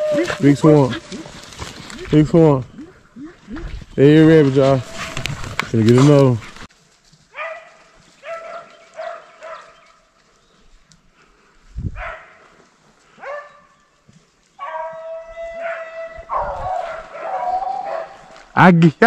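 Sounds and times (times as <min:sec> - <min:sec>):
hunting dogs baying: 0:00.0 - 0:06.7, 0:07.3 - 0:10.0, 0:12.0 - 0:13.9, 0:14.5 - 0:18.6.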